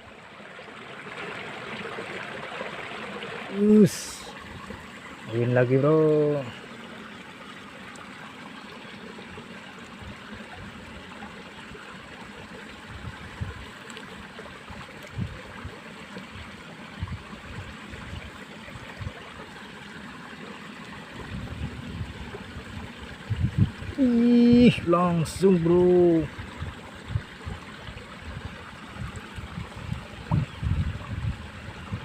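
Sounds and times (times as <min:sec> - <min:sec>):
water running along a ditch: 0:00.0 - 0:32.0.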